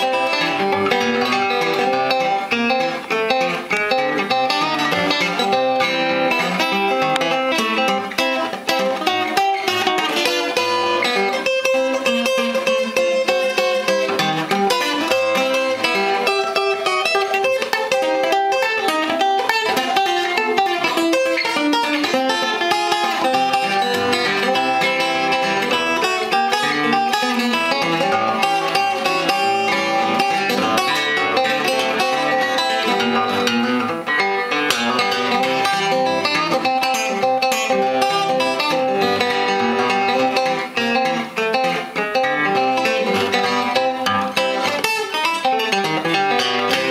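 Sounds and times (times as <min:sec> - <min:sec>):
acoustic guitar fingerstyle: 0:00.0 - 0:46.9.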